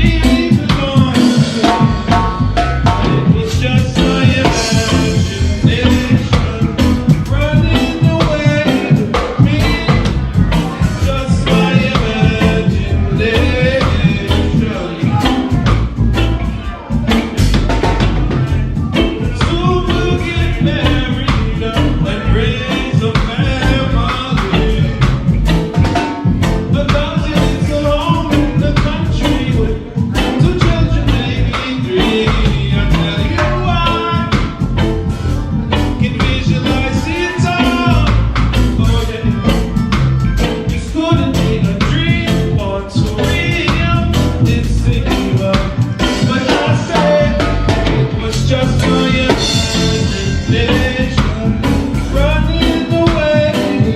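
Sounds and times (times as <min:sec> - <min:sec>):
reggae band playing live: 0:00.0 - 0:53.9.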